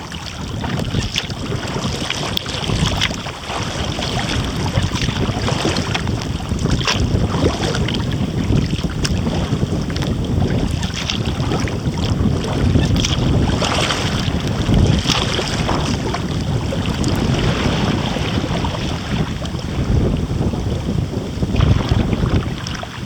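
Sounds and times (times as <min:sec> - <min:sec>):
water splashing around kayak: 0:00.0 - 0:23.0
wind buffeting microphone: 0:00.0 - 0:23.0.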